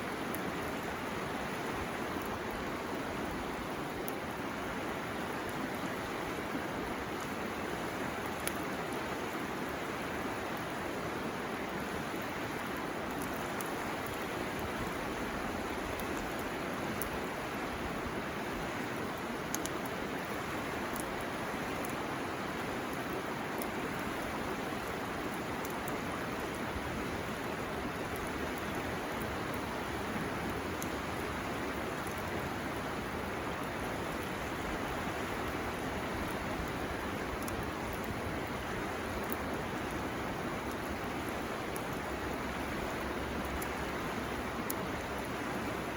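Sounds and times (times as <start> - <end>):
bamboo fire crackling: 0.0 - 45.9
river water flowing: 0.0 - 45.9.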